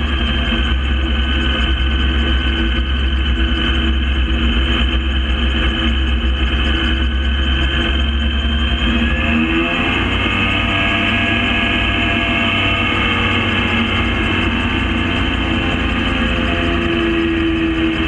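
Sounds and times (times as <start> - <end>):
gyrocopter engine and propeller: 0.0 - 18.0.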